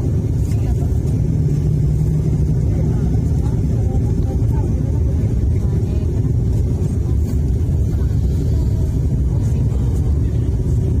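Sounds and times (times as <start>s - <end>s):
airliner engines rumbling in flight: 0.0s - 11.0s.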